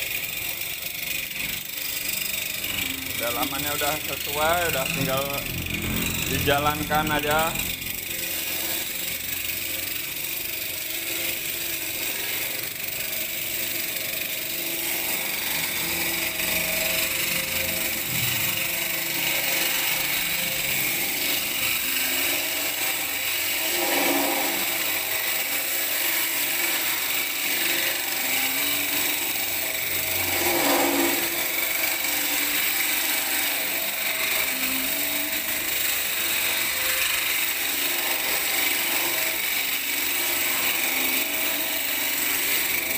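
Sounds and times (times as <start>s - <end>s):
concrete cutter grinding: 0.0s - 42.9s.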